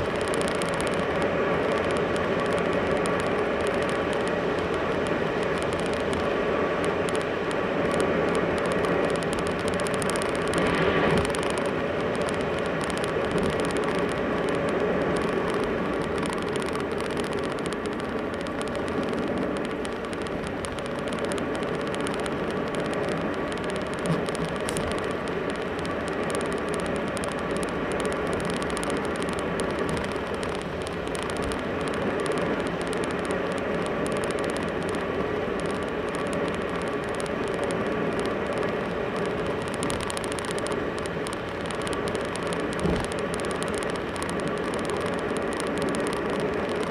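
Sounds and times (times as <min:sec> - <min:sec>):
car engine and tyre noise: 0:00.0 - 0:46.9.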